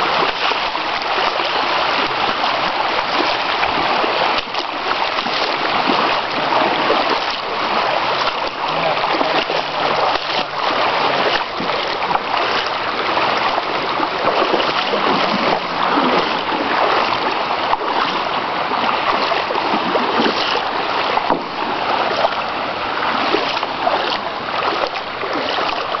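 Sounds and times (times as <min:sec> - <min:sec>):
feet splashing through water: 0:00.0 - 0:26.0
river water rushing over stones: 0:00.0 - 0:26.0.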